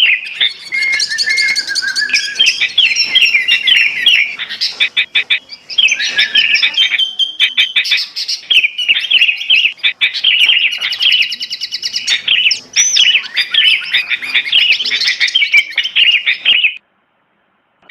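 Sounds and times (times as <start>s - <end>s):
bulbul calls: 0.0s - 16.8s
small birds chirping: 0.0s - 16.8s.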